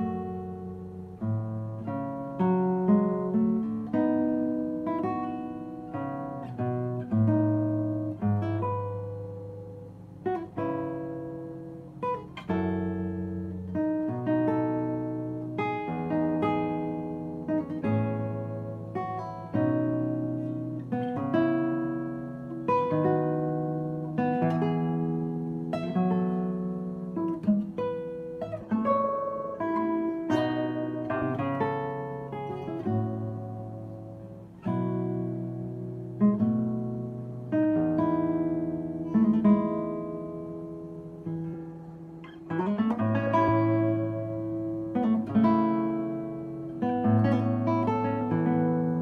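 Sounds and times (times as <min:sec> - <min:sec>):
classical guitar fingerpicked: 0:00.0 - 0:49.0.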